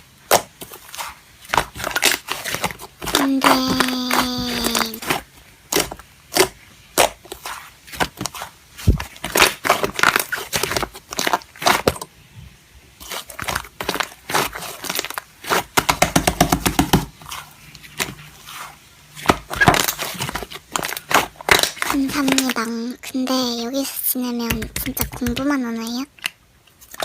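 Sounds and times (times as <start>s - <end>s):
slime crackling and popping: 0.2s - 12.1s, 13.0s - 27.0s.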